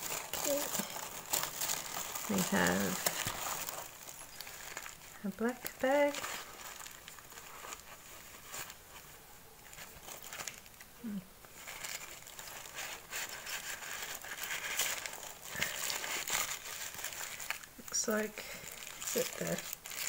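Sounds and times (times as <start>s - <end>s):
packaging rustling and crinkling: 0.0s - 20.0s.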